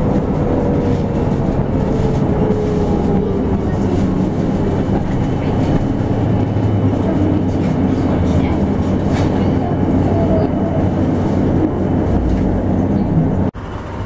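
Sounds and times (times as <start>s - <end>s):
low rumble of tyres on road: 0.0s - 14.0s.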